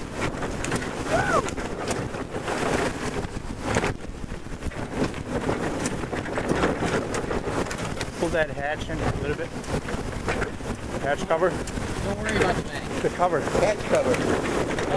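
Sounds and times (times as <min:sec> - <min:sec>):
water splashing along hull: 0:00.0 - 0:14.9
wind buffeting microphone: 0:00.0 - 0:14.9.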